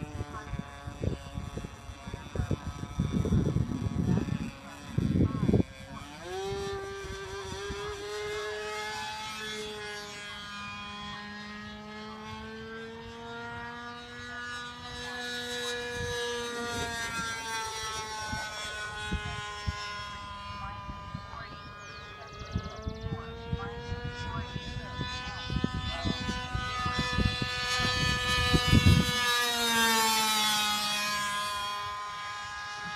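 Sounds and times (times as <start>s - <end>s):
model airplane engine drone: 0.0s - 32.9s.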